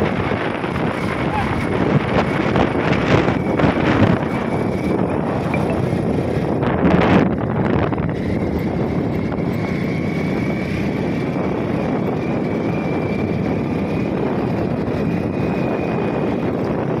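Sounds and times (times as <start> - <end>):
vehicle engine running: 0.0 - 17.0
wind over microphone: 0.0 - 17.0.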